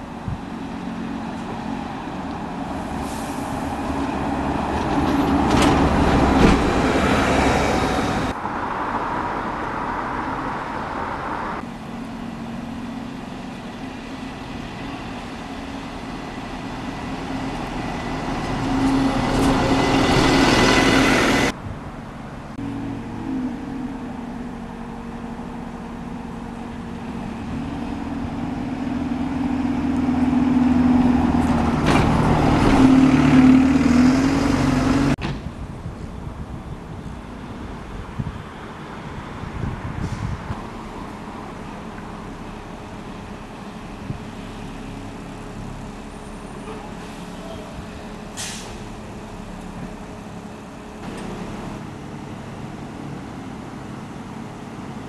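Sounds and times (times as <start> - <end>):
large vehicles passing: 0.0 - 55.0.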